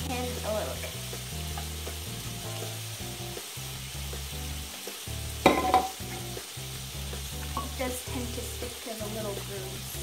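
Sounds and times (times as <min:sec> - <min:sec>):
chicken sizzling in a frying pan: 0:00.0 - 0:10.0.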